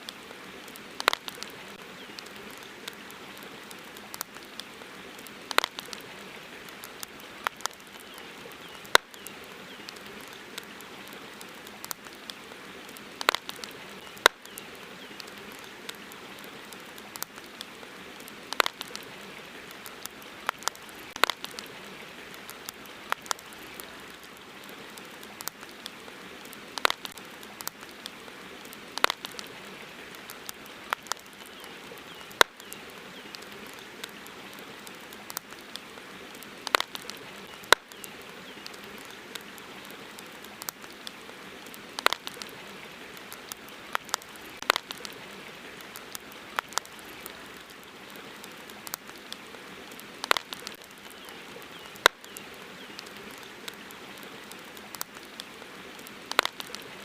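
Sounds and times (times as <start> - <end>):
campfire crackling and popping: 0.0 - 57.0
steady hiss: 0.0 - 57.0.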